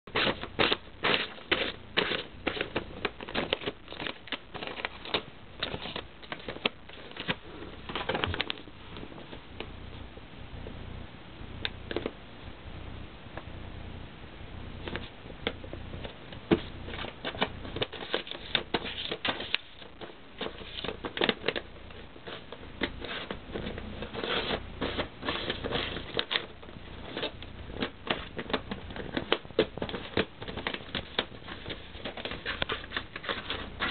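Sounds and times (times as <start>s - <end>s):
cat rustling papers: 0.1s - 9.6s, 14.8s - 33.9s.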